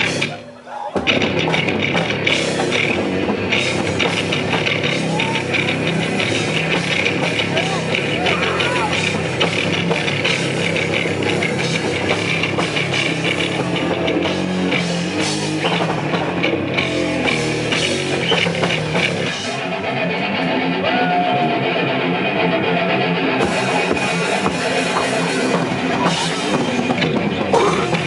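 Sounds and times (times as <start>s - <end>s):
heavy metal band playing live: 0.0s - 28.0s.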